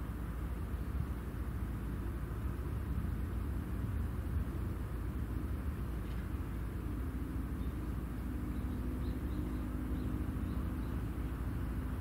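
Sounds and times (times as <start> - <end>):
faint steady hum: 0.0 - 12.0
low outdoor rumble: 0.0 - 12.0.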